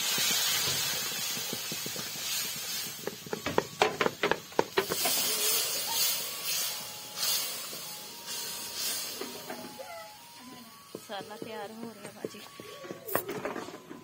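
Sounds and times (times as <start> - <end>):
water hissing in hot pot: 0.0 - 14.0.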